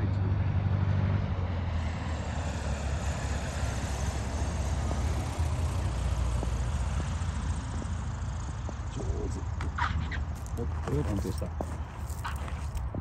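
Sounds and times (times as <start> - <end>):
light plane engine droning: 0.0 - 13.0.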